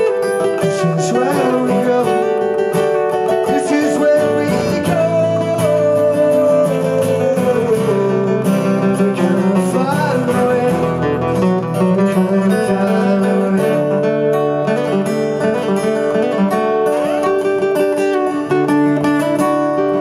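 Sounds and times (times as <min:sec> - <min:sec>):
acoustic guitars playing: 0:00.0 - 0:20.0.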